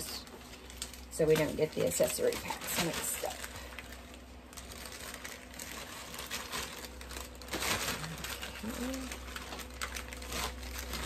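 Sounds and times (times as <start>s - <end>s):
plastic and foil packets crinkling: 0.0s - 11.0s.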